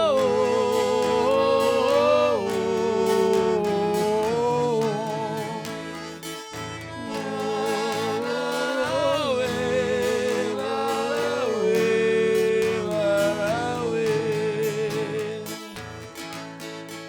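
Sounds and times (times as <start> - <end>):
strummed strings: 0.0 - 17.0.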